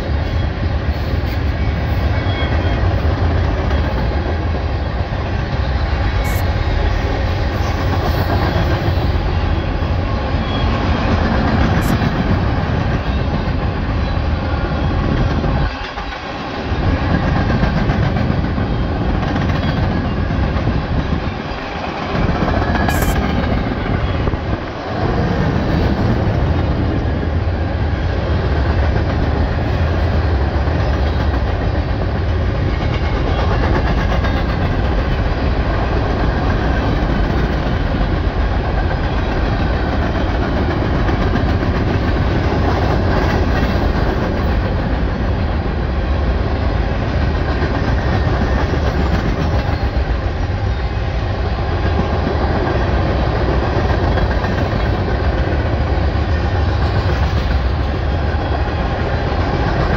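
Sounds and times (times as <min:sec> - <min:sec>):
freight train rumbling and clattering: 0:00.0 - 0:59.9.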